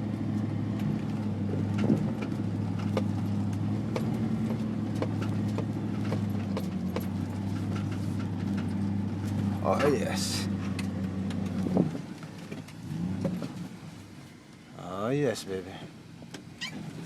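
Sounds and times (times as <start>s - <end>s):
knocks and rattles over bumps: 0.0s - 14.2s
vehicle engine running: 0.0s - 17.0s.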